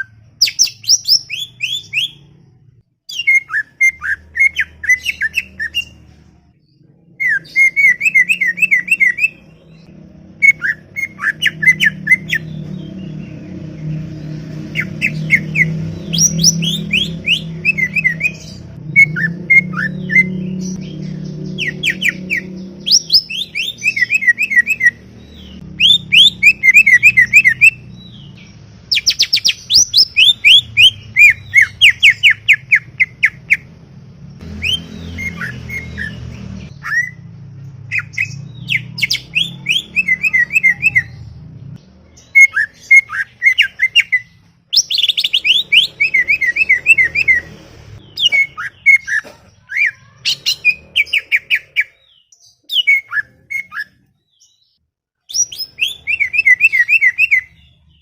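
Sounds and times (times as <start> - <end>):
bird singing rapid chattering phrases: 0.0 - 58.0.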